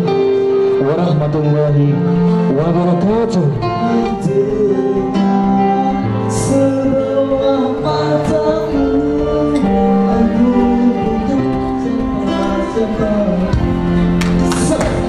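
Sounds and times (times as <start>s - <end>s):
instrumental accompaniment: 0.0s - 15.0s
man singing into microphone: 0.0s - 15.0s.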